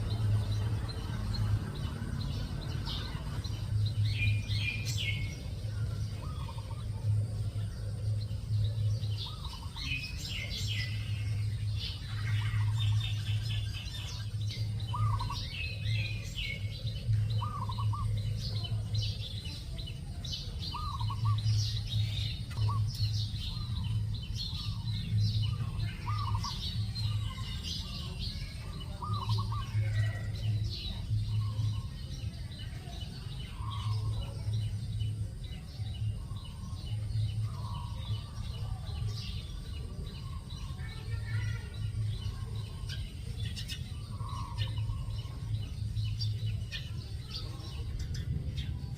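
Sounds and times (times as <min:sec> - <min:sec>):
birds chirping and calling: 0:00.0 - 0:48.9.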